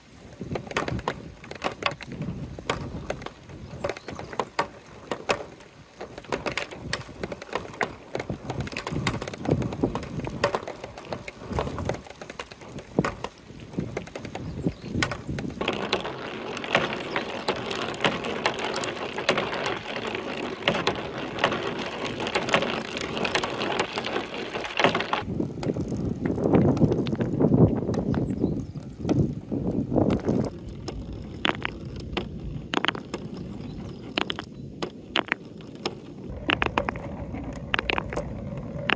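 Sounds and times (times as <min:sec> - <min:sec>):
plastic balls rattling down gutters: 0:00.0 - 0:38.9.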